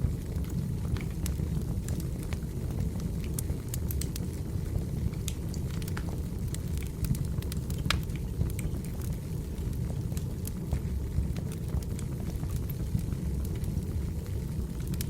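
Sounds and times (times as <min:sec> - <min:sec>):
fire flame rumbling: 0:00.0 - 0:15.0
firewood crackling and popping: 0:00.0 - 0:15.0.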